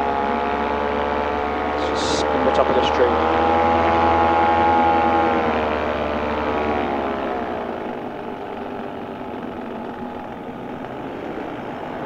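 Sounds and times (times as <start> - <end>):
two-stroke engine throttling back: 0.0 - 12.0.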